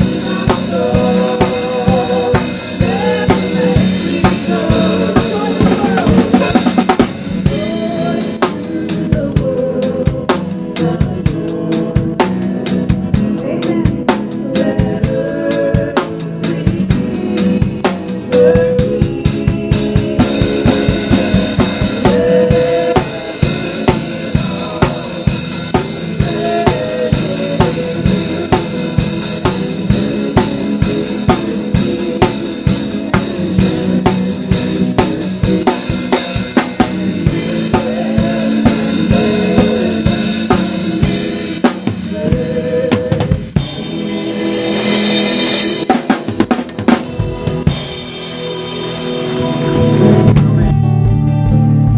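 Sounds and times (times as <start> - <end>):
drum kit beat: 0.0 - 51.9
sustained band chords: 0.0 - 51.9.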